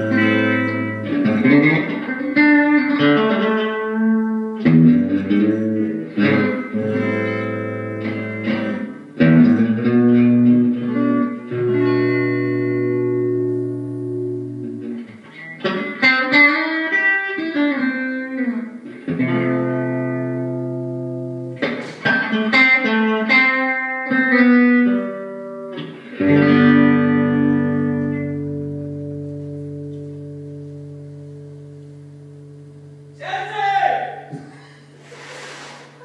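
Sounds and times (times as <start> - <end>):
guitar improvising: 0.0 - 36.0.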